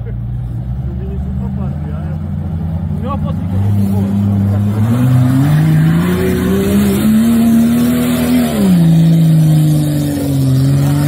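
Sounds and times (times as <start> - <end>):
engine revving: 0.3 - 11.0.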